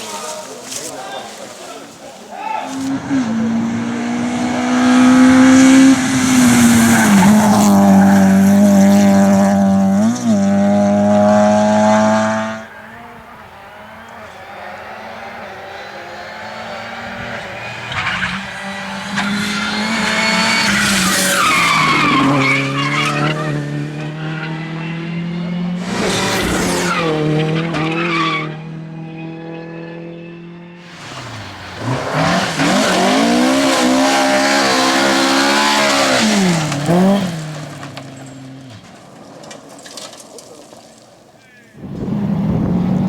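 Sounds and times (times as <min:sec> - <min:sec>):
tyres skidding: 0:00.0 - 0:29.6, 0:30.7 - 0:43.0
rally car engines at high revs: 0:02.7 - 0:41.2, 0:41.8 - 0:43.0.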